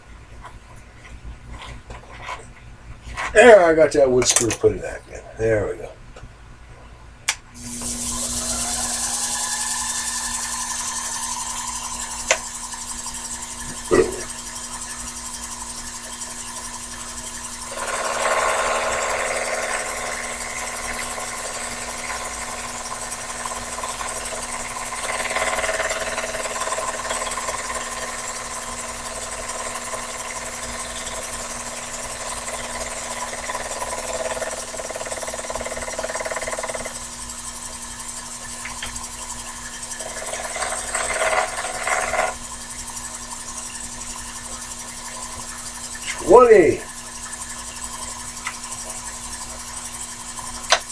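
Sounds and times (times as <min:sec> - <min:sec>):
lathe tool scraping and squealing: 0:07.6 - 0:50.8
lathe motor hum: 0:07.6 - 0:50.9.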